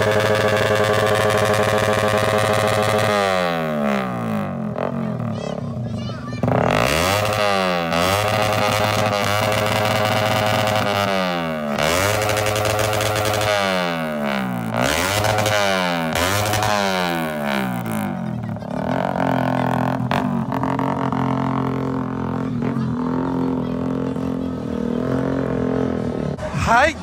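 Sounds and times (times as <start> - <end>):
motorcycle engine revving: 0.0 - 26.5.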